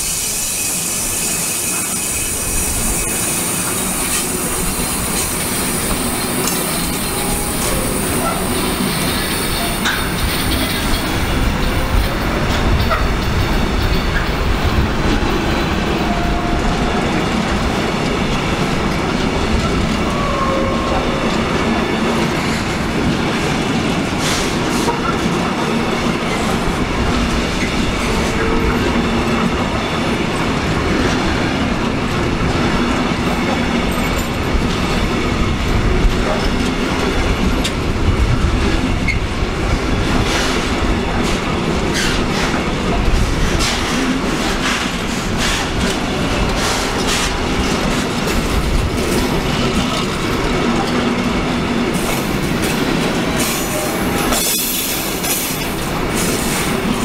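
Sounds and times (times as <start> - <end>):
train wheels rumbling on rails: 0.0 - 57.0
wheels clickety-clack over joints: 2.6 - 16.1, 16.7 - 57.0.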